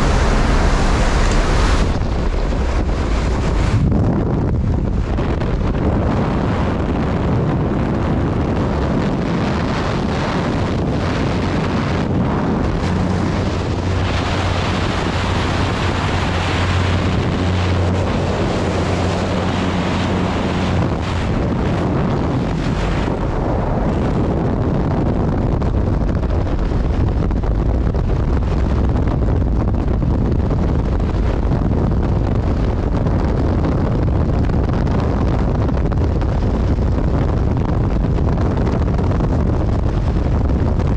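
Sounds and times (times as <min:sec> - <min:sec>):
plane engine and propeller drone: 0:00.0 - 0:40.9
wind rushing over microphone: 0:00.0 - 0:40.9.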